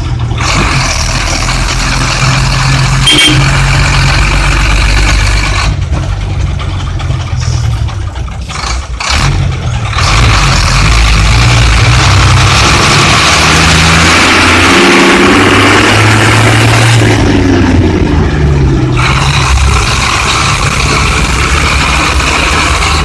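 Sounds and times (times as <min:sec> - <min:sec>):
diesel bus engine under load: 0:00.0 - 0:23.0.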